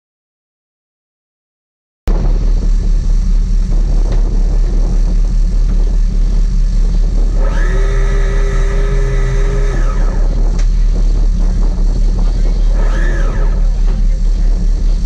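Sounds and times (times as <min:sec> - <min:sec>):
boat engines rumbling: 0:02.1 - 0:15.0
steady high tone: 0:02.1 - 0:15.0.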